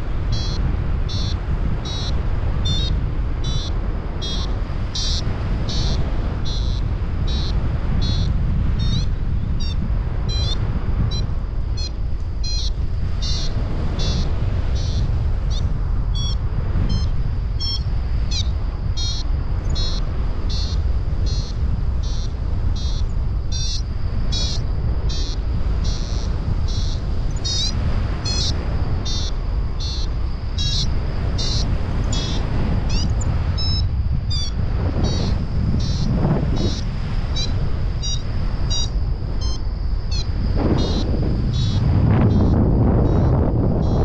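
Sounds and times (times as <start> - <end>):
wind rushing over microphone: 0.0 - 44.0
high-pitched variometer beeps: 0.3 - 44.0.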